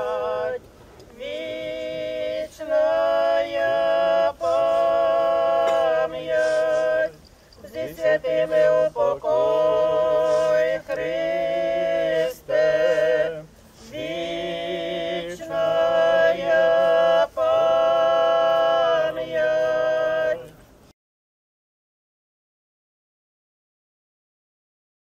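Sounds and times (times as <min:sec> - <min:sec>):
voices chanting a hymn: 0:00.0 - 0:20.8.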